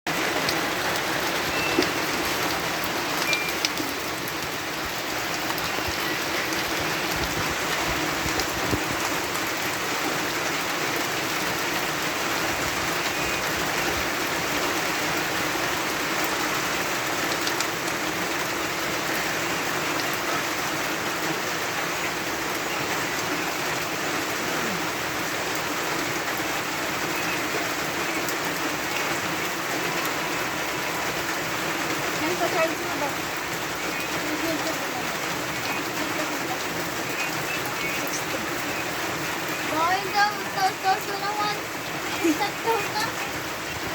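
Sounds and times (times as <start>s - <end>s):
heavy rain falling: 0.1s - 43.9s.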